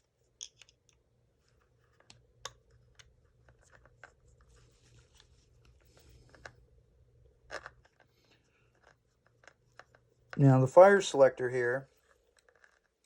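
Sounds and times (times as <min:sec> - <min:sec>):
small parts clicking and scraping: 0:00.2 - 0:06.6, 0:07.4 - 0:10.4, 0:11.9 - 0:13.0.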